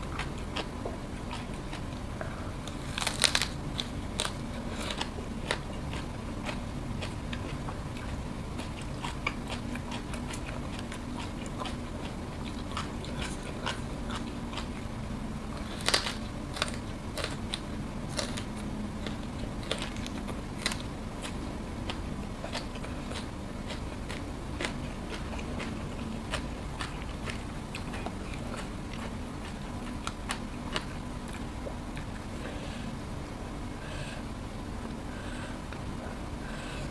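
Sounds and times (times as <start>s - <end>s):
chewing and crunching vegetables: 0.0s - 32.9s
faint steady hum: 0.0s - 36.9s.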